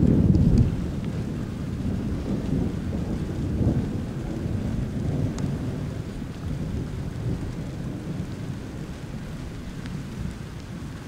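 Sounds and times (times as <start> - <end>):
rolling thunder rumble: 0.0 - 11.0.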